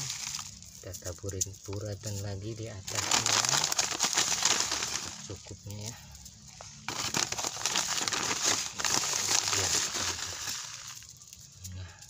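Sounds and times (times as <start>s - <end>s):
granules pattering on soil: 0.0s - 12.0s.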